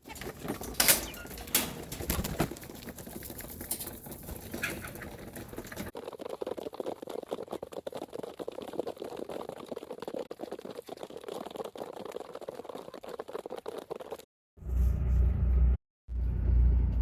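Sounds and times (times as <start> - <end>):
chicken feed pattering: 0.0 - 14.2.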